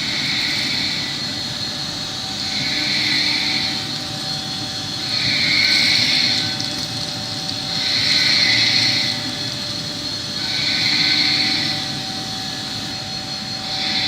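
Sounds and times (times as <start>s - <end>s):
high hiss: 0.0s - 14.0s
industrial machinery hum: 0.0s - 14.0s.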